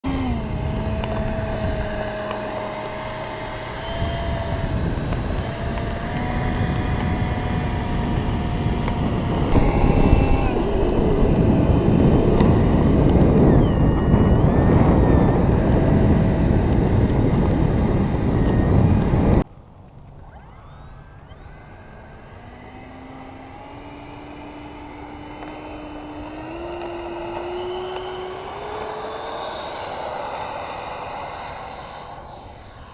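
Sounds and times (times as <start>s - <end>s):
electric ducted fan whine: 0.0s - 32.9s
fan whine rising in pitch: 0.0s - 32.9s.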